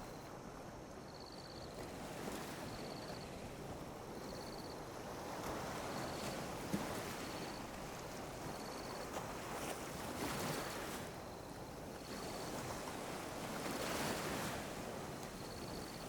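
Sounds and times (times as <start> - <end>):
small waves lapping on beach: 0.0 - 16.0.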